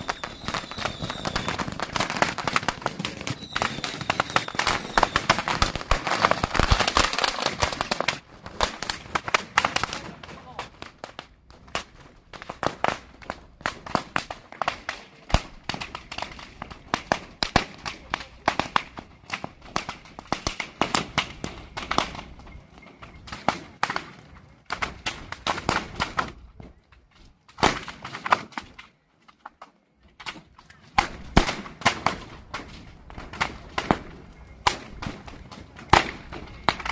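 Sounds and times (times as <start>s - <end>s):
firecrackers cracking and popping: 0.0s - 36.9s.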